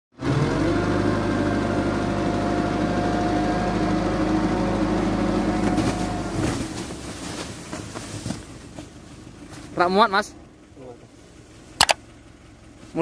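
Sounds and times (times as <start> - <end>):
truck engine idling: 0.2 - 13.0.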